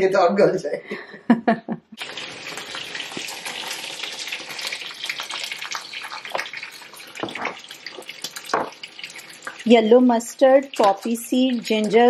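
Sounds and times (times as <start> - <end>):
seeds pattering on metal: 2.0 - 12.0.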